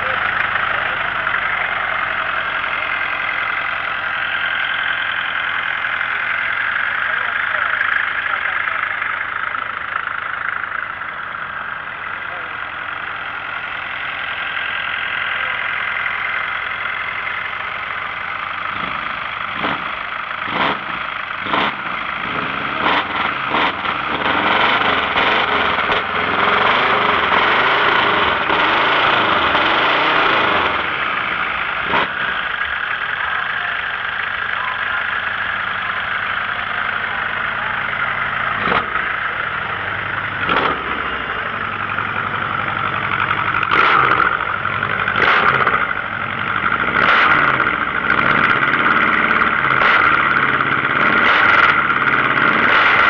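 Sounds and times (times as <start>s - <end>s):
truck engine revving and idling: 0.0s - 53.0s.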